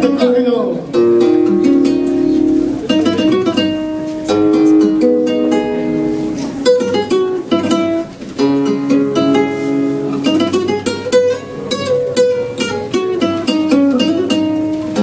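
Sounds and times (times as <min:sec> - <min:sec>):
flamenco guitar: 0:00.0 - 0:15.0.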